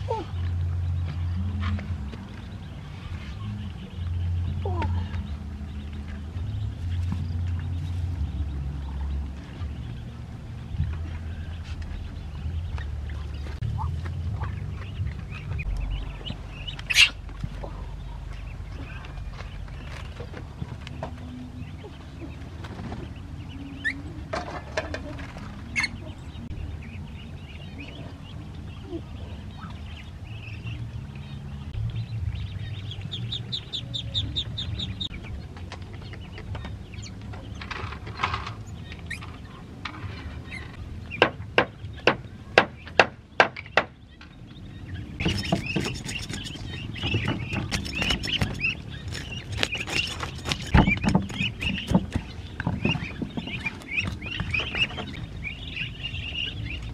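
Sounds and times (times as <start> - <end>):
ducks and ducklings calling: 0.0 - 56.9.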